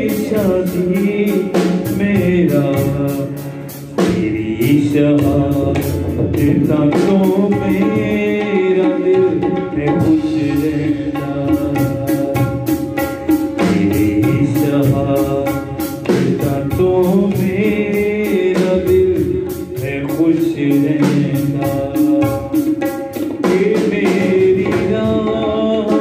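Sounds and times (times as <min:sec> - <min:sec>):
drum kit beat: 0:00.0 - 0:26.0
man singing: 0:00.0 - 0:26.0
tabla: 0:00.0 - 0:26.0.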